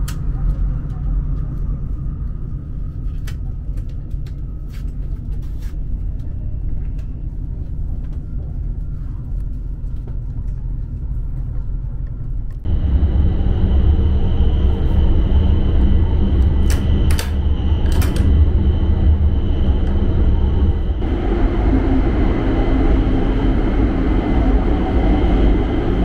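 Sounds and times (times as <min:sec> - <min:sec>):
train cabin rumble: 0:00.0 - 0:26.0.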